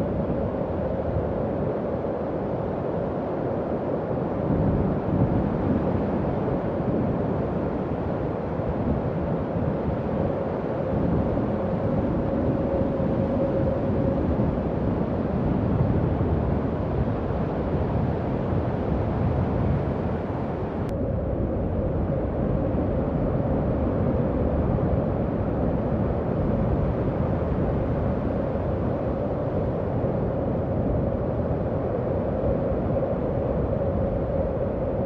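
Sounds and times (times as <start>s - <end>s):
howling wind: 0.0s - 35.0s.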